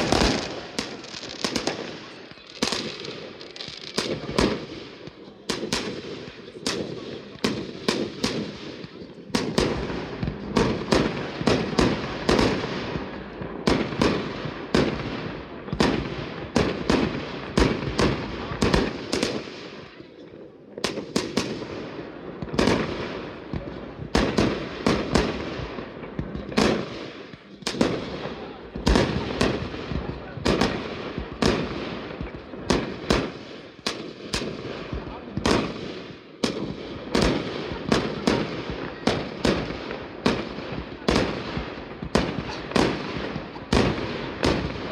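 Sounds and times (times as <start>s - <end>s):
fireworks crackling: 0.0s - 44.9s.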